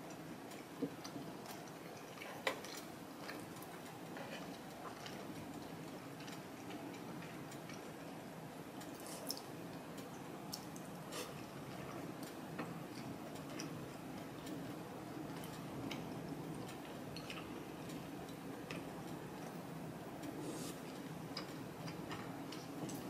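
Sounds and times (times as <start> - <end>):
chewing and wet mouth sounds: 0.1 - 8.2, 8.8 - 14.7, 15.3 - 23.0.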